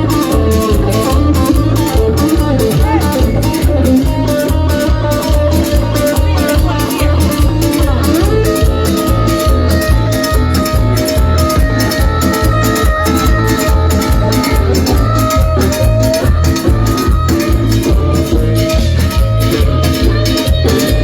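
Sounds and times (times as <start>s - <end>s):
live band playing cumbia: 0.0s - 21.0s.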